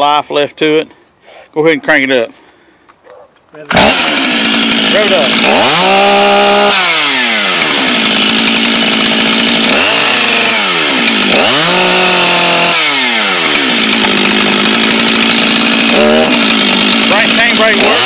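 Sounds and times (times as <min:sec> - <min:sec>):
chainsaw idling and revving: 0:03.6 - 0:18.0.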